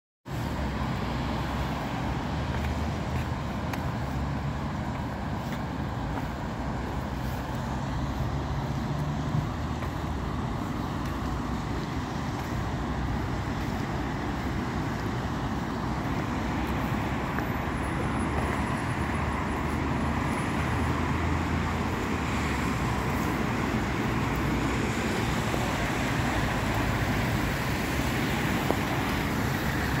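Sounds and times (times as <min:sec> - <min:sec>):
vehicle engines running: 0:00.3 - 0:30.0.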